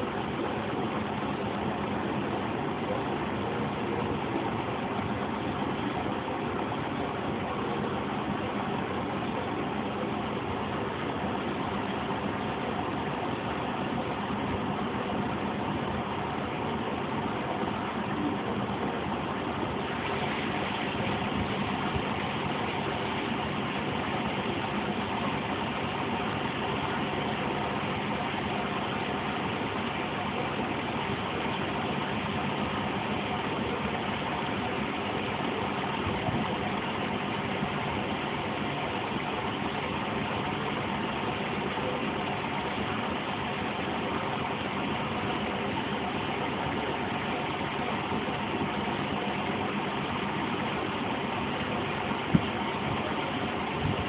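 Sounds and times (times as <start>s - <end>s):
washing machine drum spinning: 0.0s - 54.0s.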